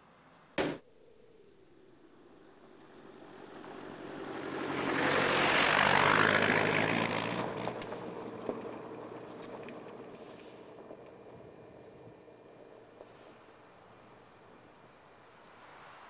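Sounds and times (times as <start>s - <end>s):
car engine with broken exhaust: 2.1s - 15.6s.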